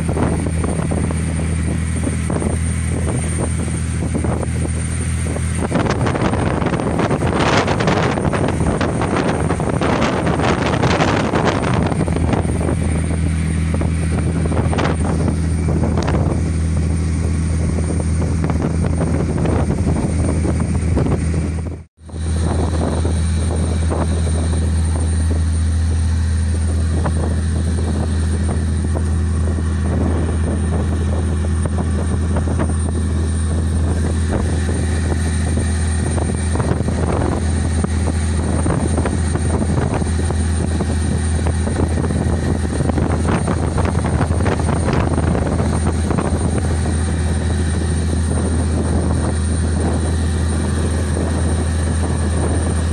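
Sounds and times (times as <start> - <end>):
boat engine droning: 0.0 - 52.9
water noise: 0.0 - 52.9
wind noise: 0.0 - 52.9.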